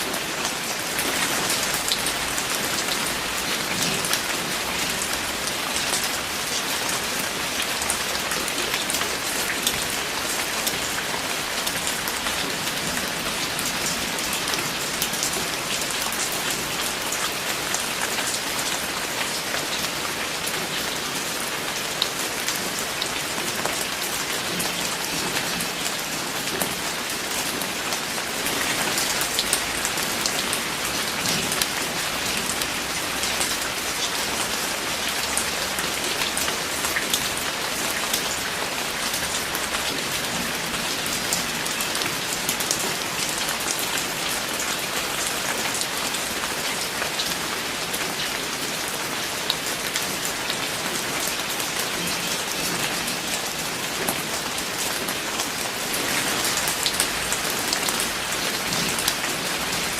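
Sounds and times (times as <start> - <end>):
rain drops pattering: 0.0 - 59.9.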